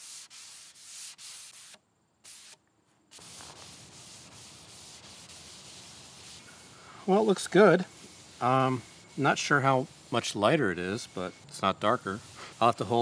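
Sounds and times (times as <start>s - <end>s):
sanding sponge rasping on wood: 0.0s - 2.5s, 3.2s - 13.0s
cloth rubbing over wood: 0.0s - 13.0s.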